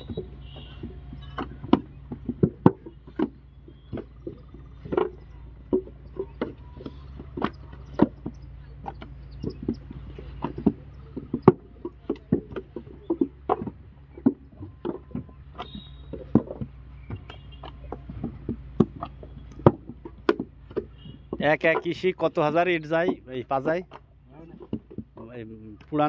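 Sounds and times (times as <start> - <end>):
wooden molds knocking on ground: 0.0 - 26.0.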